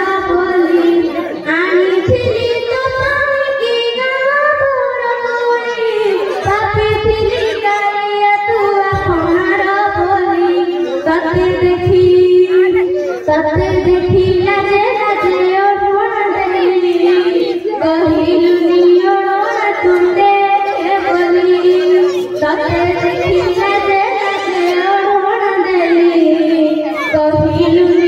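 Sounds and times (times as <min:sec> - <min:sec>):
girl singing through loudspeakers: 0:00.0 - 0:28.0.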